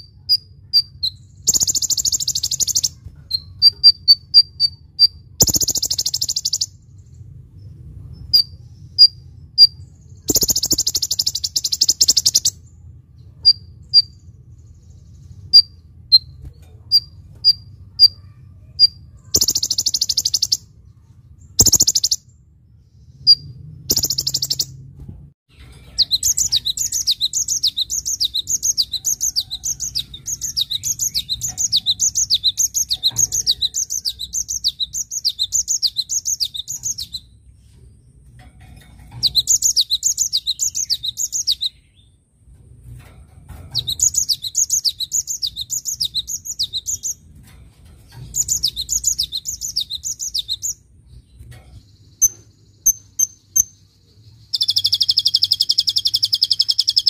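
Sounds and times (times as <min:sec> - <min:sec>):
bird singing fast dense song: 0:00.0 - 0:57.0
faint low hum: 0:00.0 - 0:57.0.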